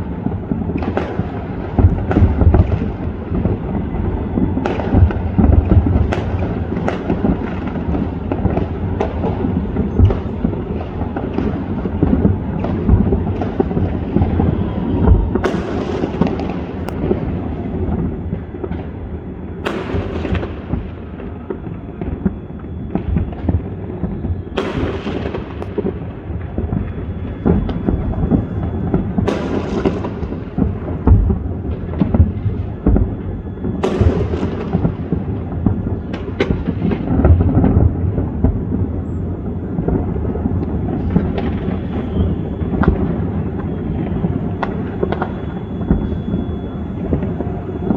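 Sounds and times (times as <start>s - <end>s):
fireworks crackles: 0.0s - 47.9s
fireworks rumble: 0.0s - 47.9s
fireworks sharp bangs: 0.0s - 47.9s.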